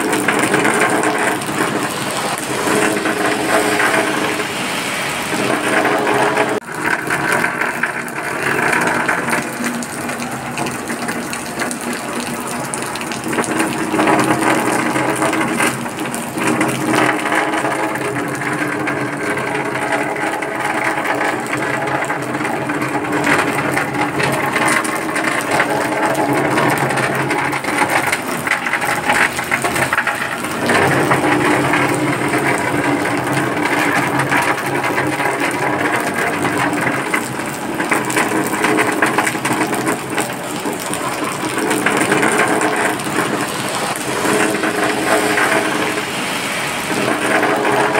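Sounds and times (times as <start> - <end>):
steady rain falling: 0.0 - 47.9
water splashing and running: 0.0 - 47.9.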